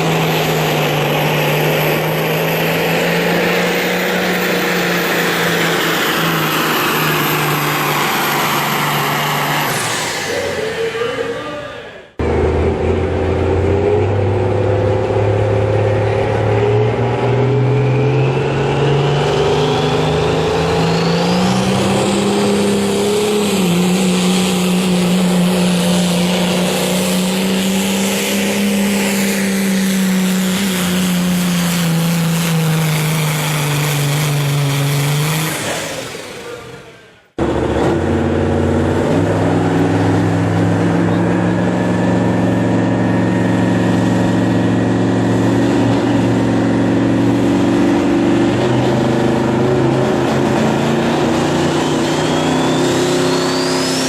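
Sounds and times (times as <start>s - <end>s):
diesel truck engine under full power: 0.0s - 54.0s.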